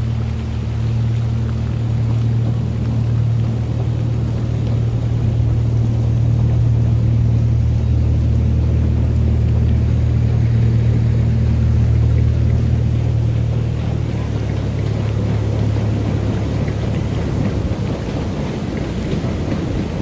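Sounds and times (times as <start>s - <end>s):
miniature train engine drone: 0.0s - 20.0s.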